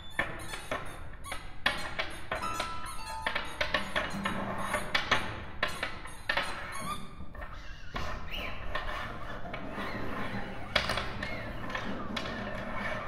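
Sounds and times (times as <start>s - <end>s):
short squeaks: 0.0s - 13.0s.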